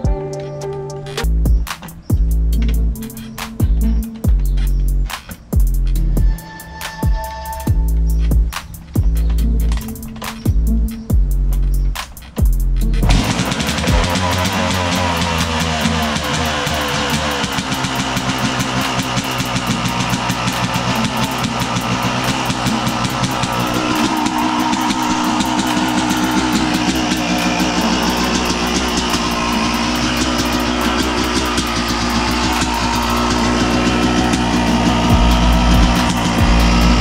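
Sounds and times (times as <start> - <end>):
rock music: 0.0 - 11.2, 13.0 - 37.0
two-stroke engine running: 1.2 - 37.0.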